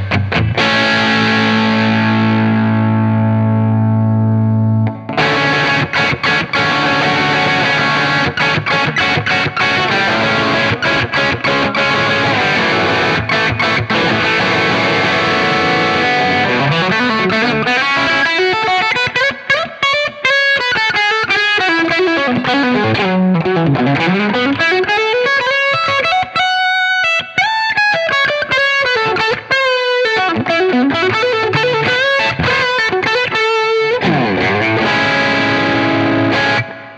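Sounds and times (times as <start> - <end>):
distorted electric guitar: 0.0 - 36.9.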